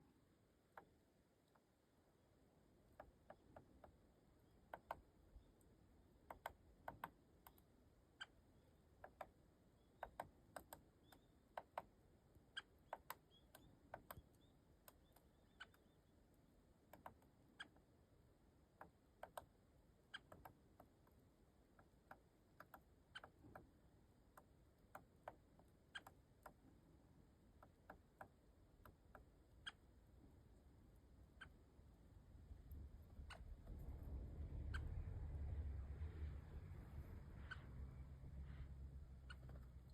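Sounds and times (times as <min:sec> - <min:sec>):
woodpecker kik calls: 0:02.8 - 0:18.0, 0:18.7 - 0:26.8, 0:27.5 - 0:35.3, 0:37.3 - 0:39.9.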